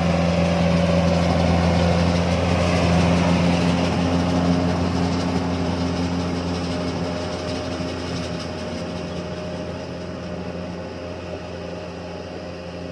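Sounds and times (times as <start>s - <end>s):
combine harvester engine running: 0.0s - 12.9s.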